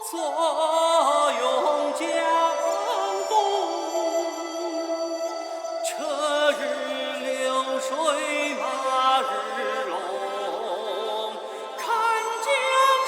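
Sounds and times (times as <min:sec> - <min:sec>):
chant-like sung vocal: 0:00.0 - 0:13.0.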